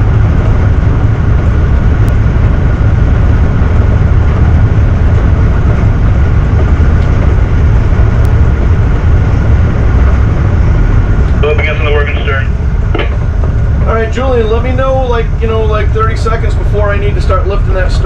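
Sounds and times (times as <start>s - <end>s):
diesel engines rumbling: 0.0s - 18.0s
faint engine whine: 0.0s - 18.0s
propeller wash: 0.0s - 18.0s.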